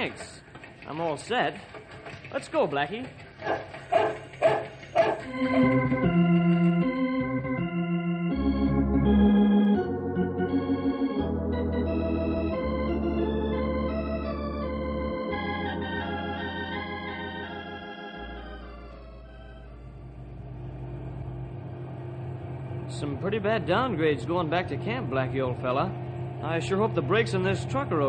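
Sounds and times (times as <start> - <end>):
organ chords over bass note: 5.3 - 28.0.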